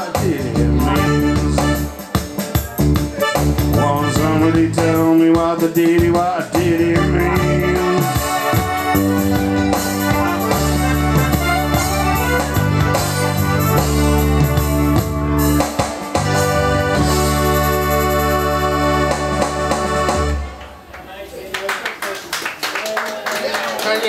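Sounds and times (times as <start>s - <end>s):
bass line: 0.0s - 2.1s, 2.7s - 20.6s
electronic keyboard organ chords: 0.0s - 20.9s
keyboard rhythm backing: 0.0s - 21.0s.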